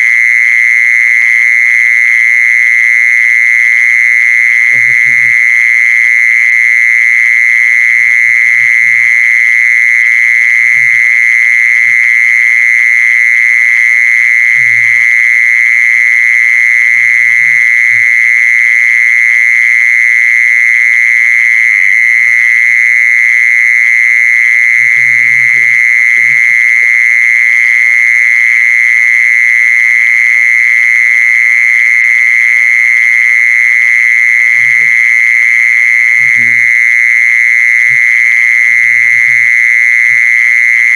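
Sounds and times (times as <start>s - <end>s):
insect high-pitched call: 3.6s - 29.2s, 32.0s - 40.9s.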